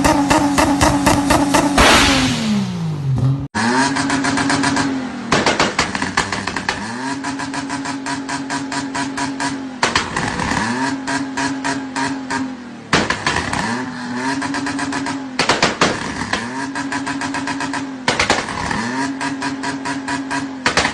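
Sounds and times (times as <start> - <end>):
car engine revving with crackling: 0.0 - 20.9.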